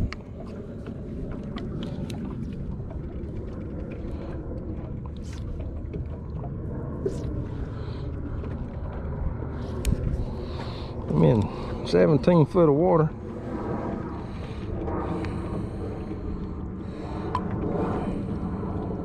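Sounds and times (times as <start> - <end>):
boat engine rumble: 0.0 - 19.0.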